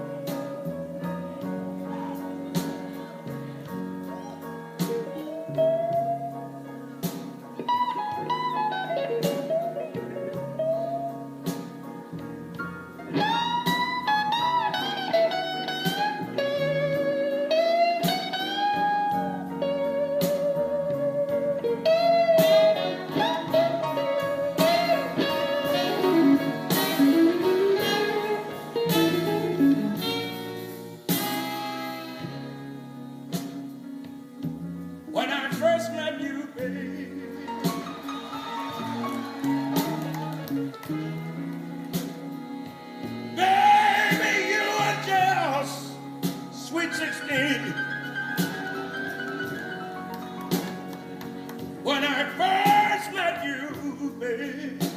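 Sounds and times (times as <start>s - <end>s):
backing band: 0.0s - 54.9s
blues lead guitar bending notes: 0.0s - 54.9s.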